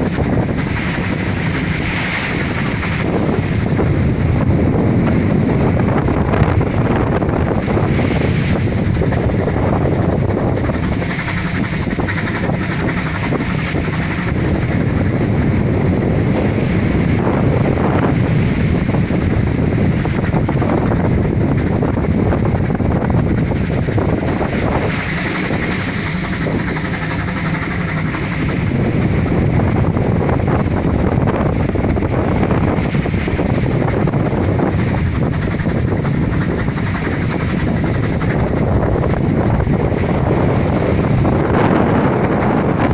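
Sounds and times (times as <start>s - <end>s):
waves washing against boat: 0.0s - 42.9s
wind buffeting microphone: 0.0s - 42.9s.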